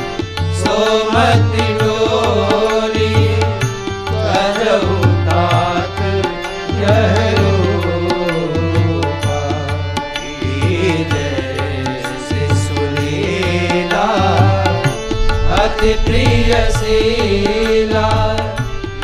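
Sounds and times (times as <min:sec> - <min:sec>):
steady held drone: 0:00.0 - 0:19.0
tabla strokes: 0:00.0 - 0:19.0
person singing: 0:00.5 - 0:18.8.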